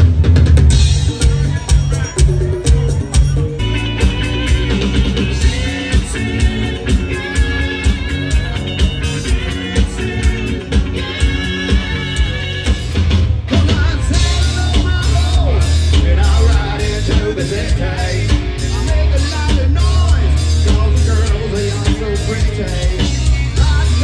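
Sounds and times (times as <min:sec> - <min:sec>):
bass guitar: 0:00.0 - 0:24.0
drum kit: 0:00.0 - 0:24.0
electric guitar: 0:00.0 - 0:24.0
lead singer: 0:04.2 - 0:24.0.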